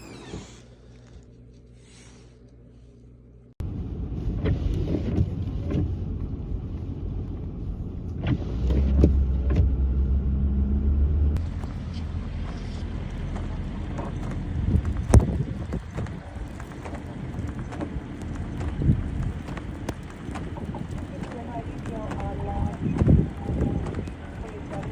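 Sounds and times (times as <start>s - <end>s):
vehicle engine rumbling: 0.0s - 24.9s
low engine hum: 1.9s - 24.9s.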